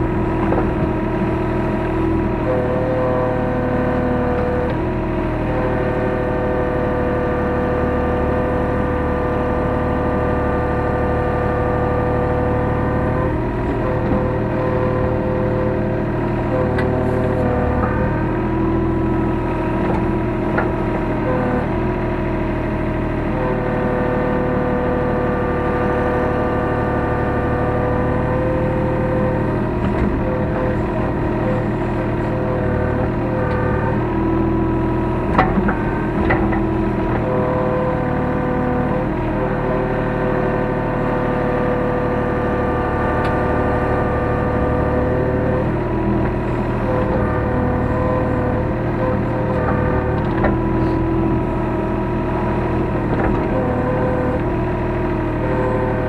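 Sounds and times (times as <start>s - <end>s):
excavator diesel engine and hydraulics: 0.0s - 56.0s
steady machine whine: 0.0s - 56.0s.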